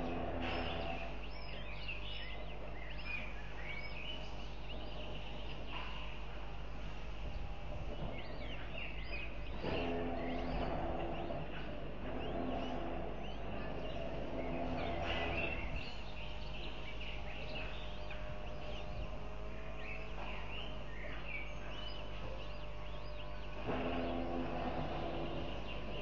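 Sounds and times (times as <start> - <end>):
birds chirping: 0.0 - 26.0
low hum: 0.0 - 26.0.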